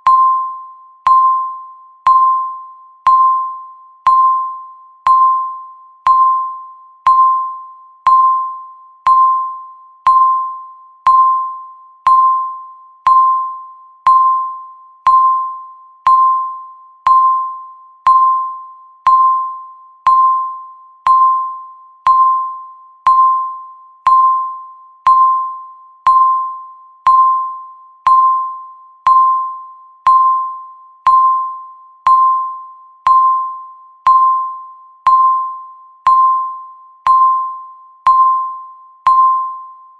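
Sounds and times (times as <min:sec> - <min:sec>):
ringing timer tone: 0:00.0 - 0:39.9.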